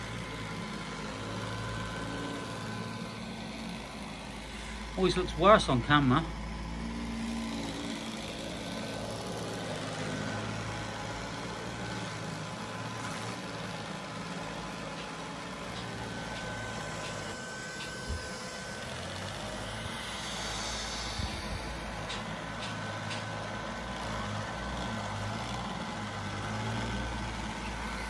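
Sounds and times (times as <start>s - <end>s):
robot vacuum whirring: 0.0s - 28.0s.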